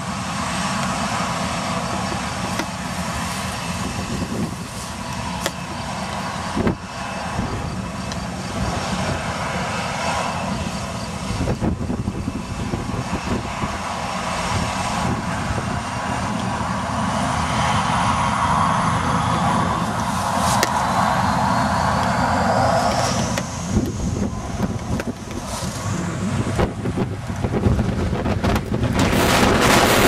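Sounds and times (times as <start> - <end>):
high whine rising in pitch: 0.0 - 30.0
jet engines spooling up: 0.0 - 30.0.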